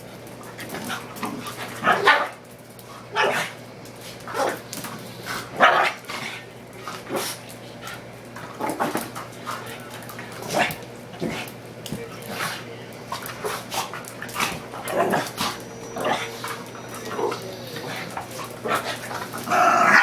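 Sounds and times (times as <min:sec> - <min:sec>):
dogs barking while playing: 0:00.6 - 0:20.0.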